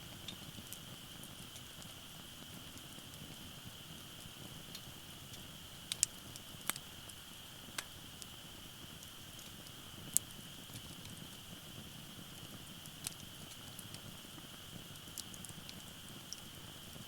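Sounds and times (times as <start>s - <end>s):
low steady hiss: 0.0s - 17.0s
campfire crackling and popping: 0.1s - 17.0s.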